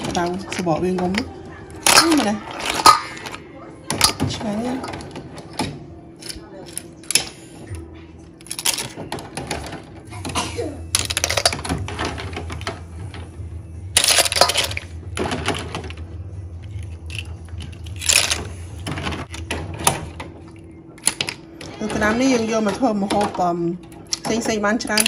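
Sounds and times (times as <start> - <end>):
hard objects clattering: 0.0 - 25.0.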